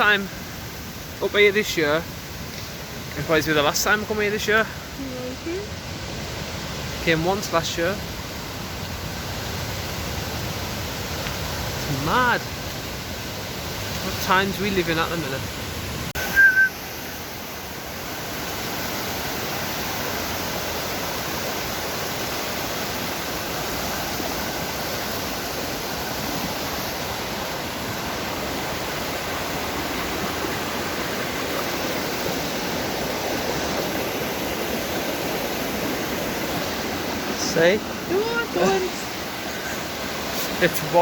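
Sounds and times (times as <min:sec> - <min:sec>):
stream and waterfalls rushing: 0:00.0 - 0:41.0.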